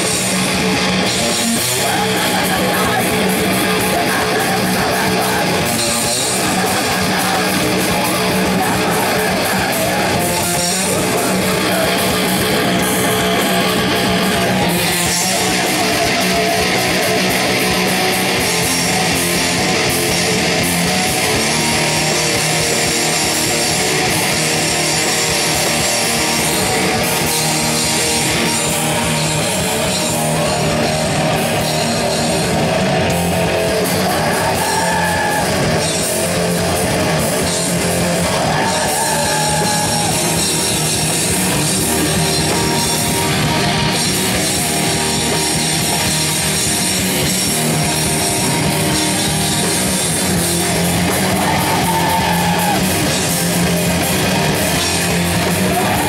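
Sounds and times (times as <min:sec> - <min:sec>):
distorted electric guitar: 0:00.0 - 0:56.0
live grindcore band playing: 0:00.0 - 0:56.0.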